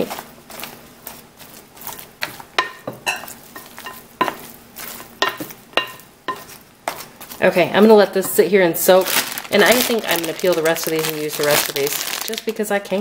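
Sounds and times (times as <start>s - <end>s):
wet squelching of stirred bread: 0.0s - 12.4s.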